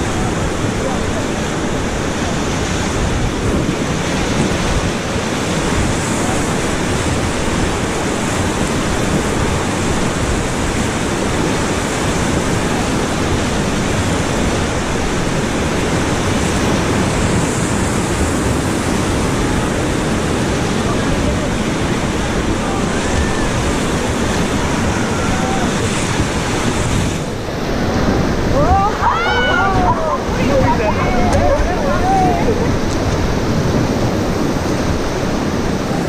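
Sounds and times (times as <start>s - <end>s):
whitewater rapids rushing: 0.0s - 36.0s.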